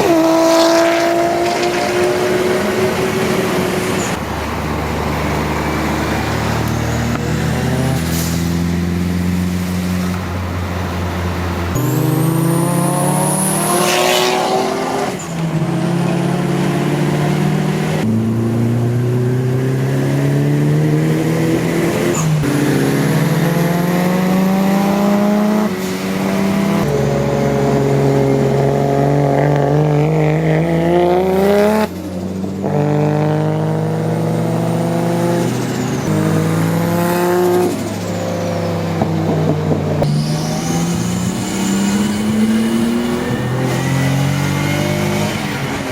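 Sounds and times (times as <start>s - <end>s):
car engines accelerating hard: 0.0s - 45.9s.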